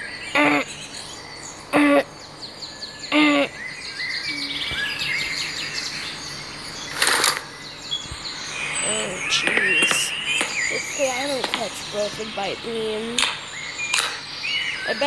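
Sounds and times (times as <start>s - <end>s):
birds chirping and twittering: 0.0s - 15.0s
loud pitched bird calls: 0.0s - 15.0s.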